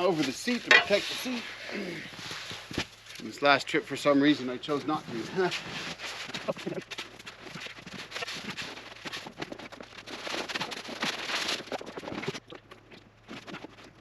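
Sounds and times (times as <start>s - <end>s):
snow crunching and scraping: 0.0s - 12.2s.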